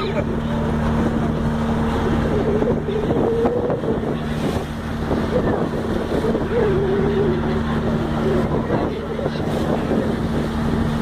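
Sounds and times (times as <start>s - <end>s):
boat engine droning: 0.0s - 11.0s
wind buffeting microphone: 0.0s - 11.0s.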